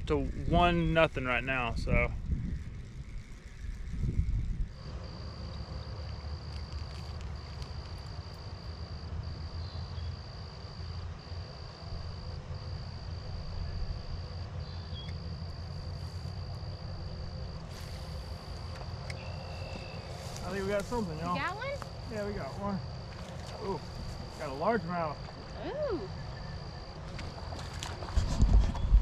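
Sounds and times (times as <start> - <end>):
insect trilling: 0.0 - 28.2.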